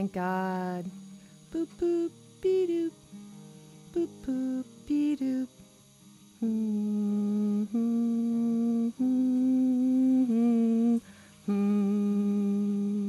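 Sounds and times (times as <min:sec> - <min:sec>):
woman humming a slow tune: 0:00.0 - 0:13.0.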